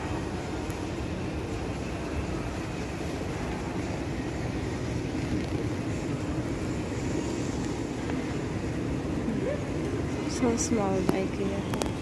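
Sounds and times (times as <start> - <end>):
shopping mall background rumble: 0.0 - 12.0.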